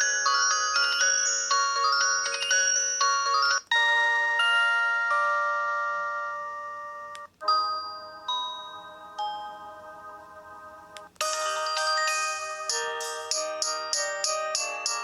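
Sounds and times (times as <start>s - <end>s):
mobile phone ringtones: 0.0s - 15.0s.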